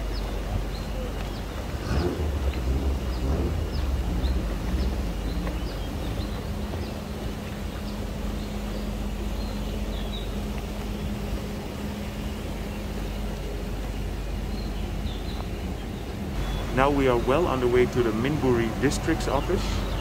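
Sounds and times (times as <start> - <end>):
birds chirping: 0.0 - 20.0
boat low rumble: 0.0 - 20.0
steady hum: 0.0 - 20.0.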